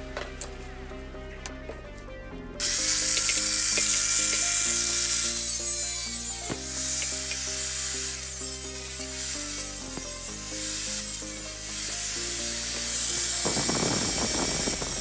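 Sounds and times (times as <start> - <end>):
background music: 0.0 - 15.0
abrasive hiss on metal: 2.6 - 15.0.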